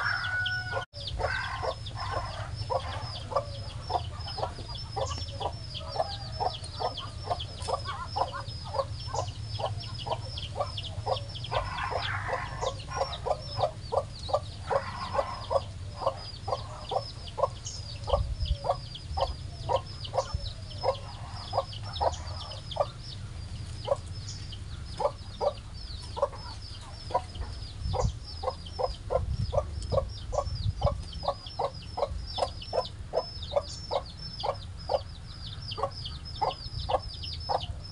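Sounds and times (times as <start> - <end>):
chicks peeping: 0.0 - 37.9
hen clucking: 0.0 - 37.9.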